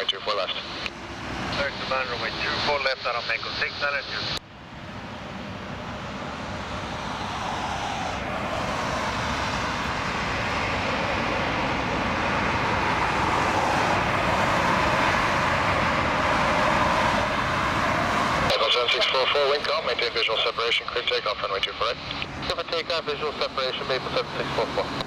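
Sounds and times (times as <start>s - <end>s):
jet airliner engine rushing: 0.0s - 25.0s.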